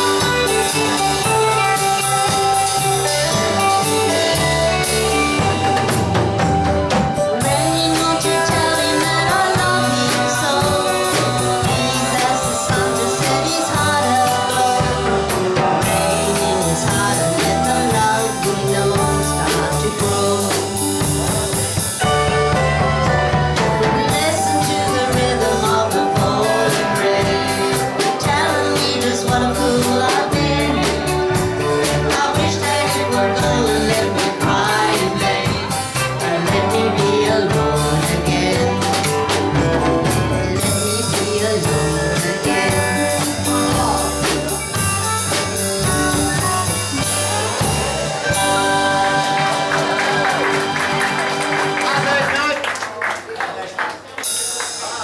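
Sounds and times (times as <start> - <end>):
person singing: 0.0 - 21.8, 23.1 - 52.2
drum kit: 0.0 - 52.7, 54.0 - 55.0
guitar: 0.0 - 52.7
bass: 0.0 - 52.9.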